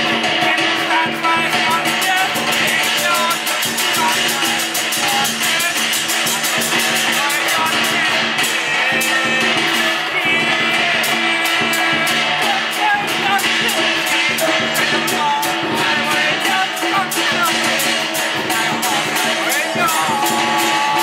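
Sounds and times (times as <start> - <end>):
person singing: 0.0 - 21.0
steady beat: 0.0 - 21.0.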